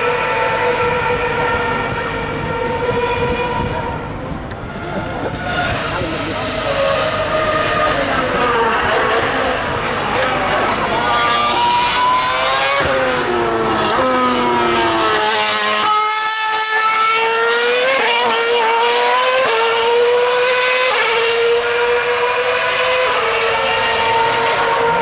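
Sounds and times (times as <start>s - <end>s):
racing car engine at high revs: 0.0s - 25.0s.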